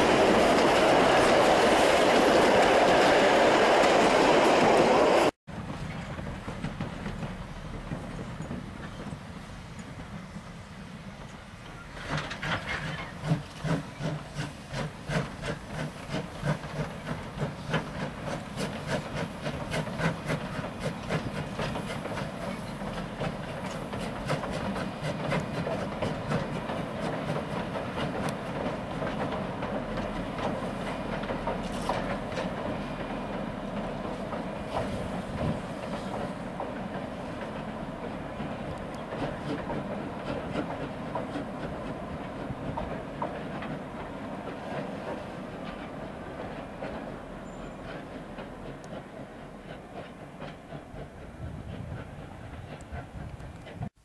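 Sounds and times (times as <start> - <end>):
wheels clicking over rail joints: 0.0 - 10.5, 11.2 - 54.0
train carriages rumbling on bridge: 0.0 - 54.0.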